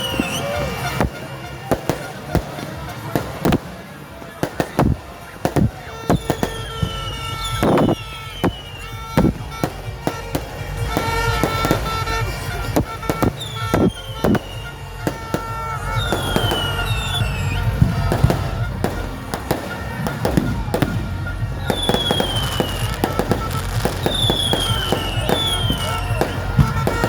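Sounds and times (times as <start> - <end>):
falling firework whistles: 0.0 - 3.7, 4.4 - 27.0
fireworks bangs: 0.0 - 27.0.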